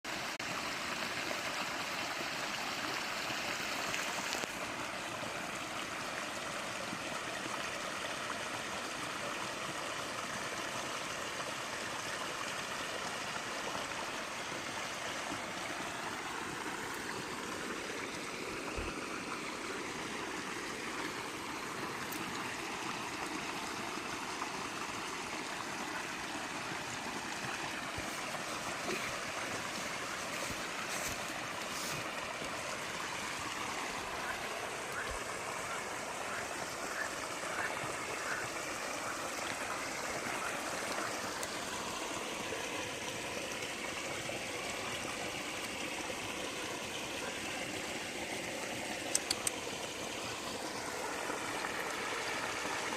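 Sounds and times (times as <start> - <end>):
stream water rushing and gurgling: 0.0 - 52.9.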